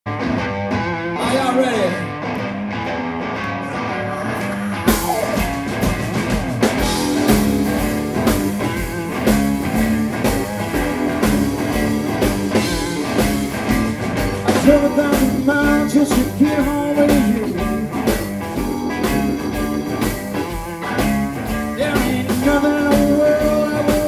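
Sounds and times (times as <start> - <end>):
blues-rock band playing: 0.1 - 24.0
electric guitar lines: 0.1 - 24.0.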